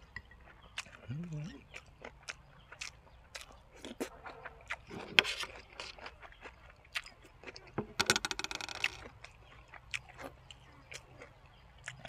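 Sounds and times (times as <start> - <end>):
person chewing food: 0.0 - 8.0, 8.9 - 12.0.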